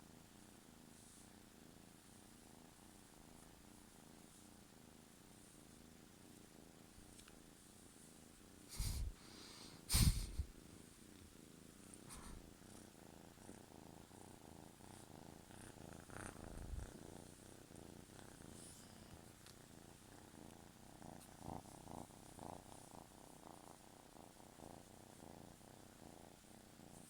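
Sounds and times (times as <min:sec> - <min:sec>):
kitten purring: 0:00.0 - 0:27.0.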